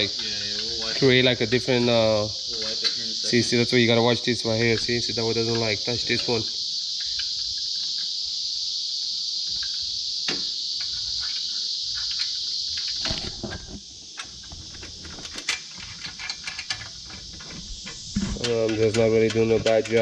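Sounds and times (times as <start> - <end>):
high insect chorus: 0.0 - 20.0.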